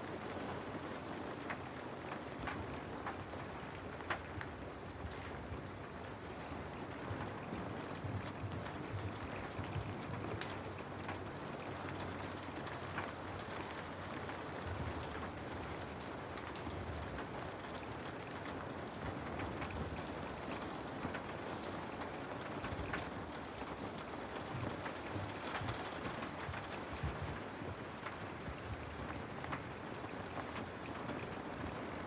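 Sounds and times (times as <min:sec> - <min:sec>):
rain pattering on a window: 0:00.0 - 0:32.0.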